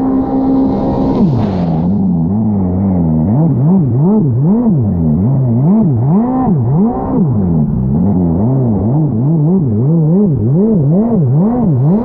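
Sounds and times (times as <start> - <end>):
jet ski engine revving: 0.0 - 12.0.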